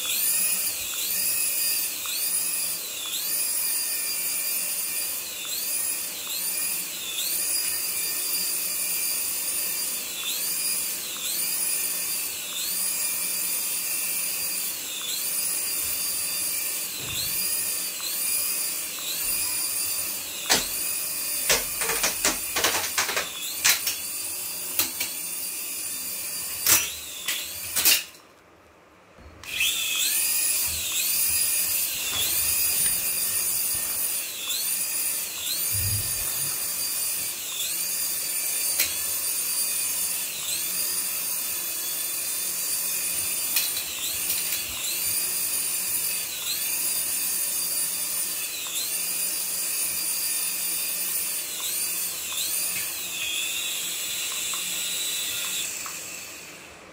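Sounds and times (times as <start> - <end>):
toy helicopter motors whining: 0.0 - 28.2, 29.4 - 56.7.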